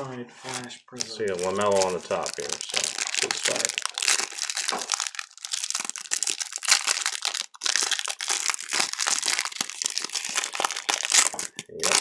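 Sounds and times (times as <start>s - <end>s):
plastic wrapper crinkling: 0.4s - 12.0s.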